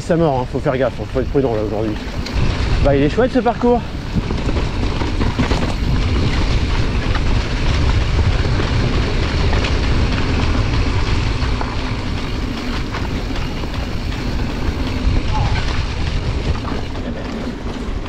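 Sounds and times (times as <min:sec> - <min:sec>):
wind buffeting microphone: 0:00.0 - 0:18.0
bike rolling over muddy trail: 0:00.1 - 0:18.0
small rattles and clicks: 0:00.6 - 0:18.0.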